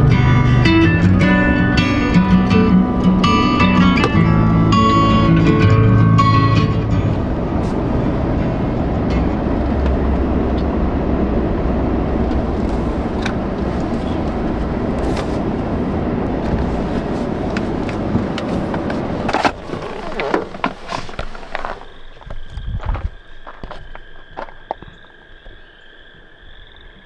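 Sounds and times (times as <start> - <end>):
truck engine and road noise: 0.0 - 25.5.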